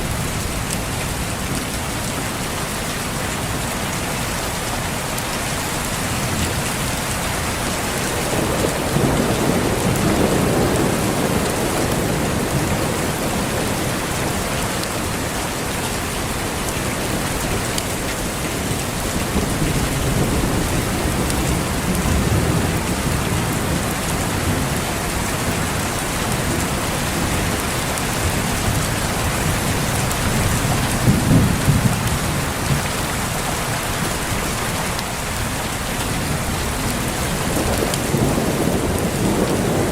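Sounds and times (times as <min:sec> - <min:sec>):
heavy rain: 0:00.0 - 0:39.9
thunder rumbling: 0:06.1 - 0:39.9.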